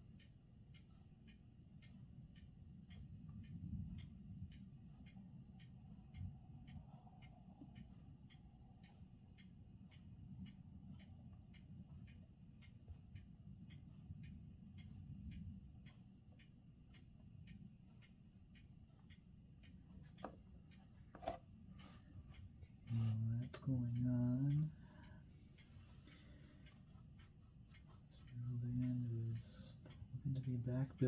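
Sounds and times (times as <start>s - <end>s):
faint regular ticking: 0.0s - 31.0s
low steady rumble: 0.0s - 31.0s.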